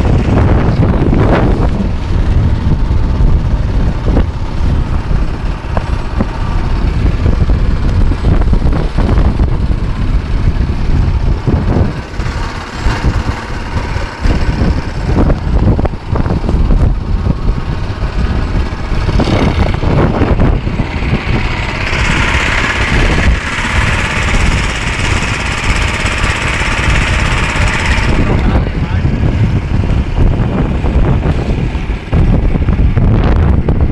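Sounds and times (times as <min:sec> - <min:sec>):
boat motor running: 0:00.0 - 0:33.9
wind buffeting microphone: 0:00.0 - 0:33.9.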